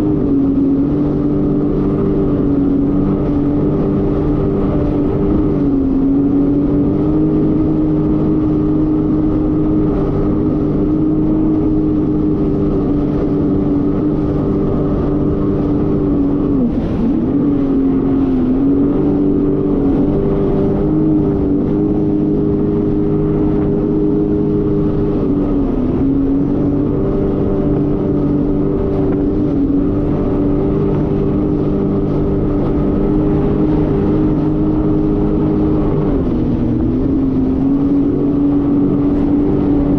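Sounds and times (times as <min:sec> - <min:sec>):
jet ski engine running: 0:00.0 - 0:39.9.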